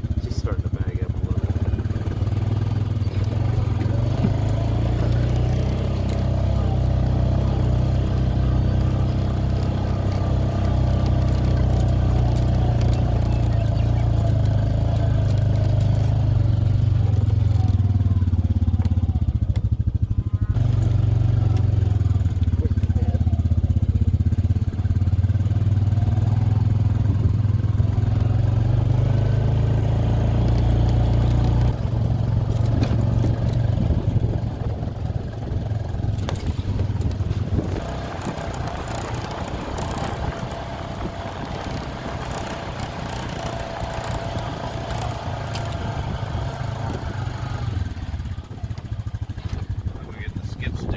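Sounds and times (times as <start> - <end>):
vehicle engine humming: 0.0 - 50.9.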